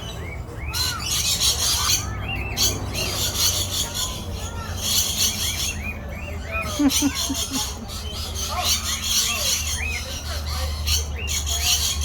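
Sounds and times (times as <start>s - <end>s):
flock of birds chattering: 0.0s - 12.0s
harsh scratchy bird calls: 0.0s - 12.0s.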